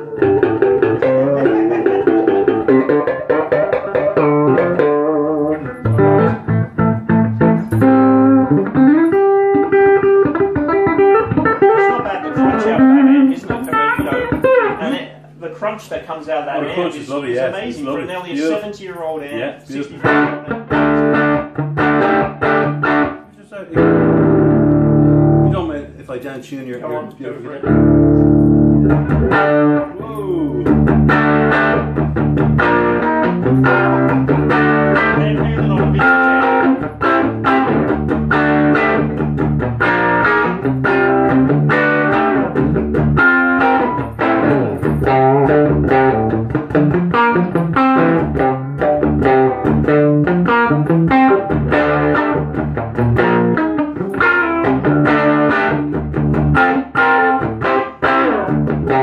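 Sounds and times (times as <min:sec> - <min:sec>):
electric guitar picked notes and chords: 0:00.0 - 0:15.4, 0:19.8 - 0:25.6, 0:27.6 - 0:59.0.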